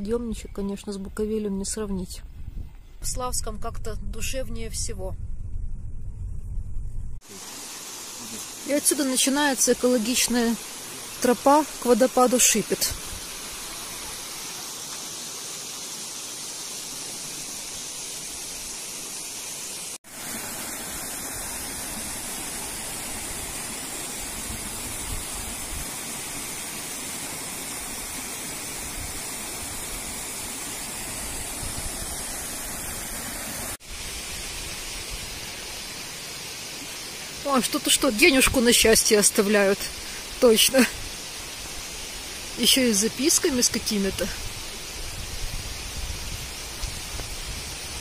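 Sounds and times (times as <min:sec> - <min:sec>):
stream rushing over rocks: 0:07.2 - 0:48.0.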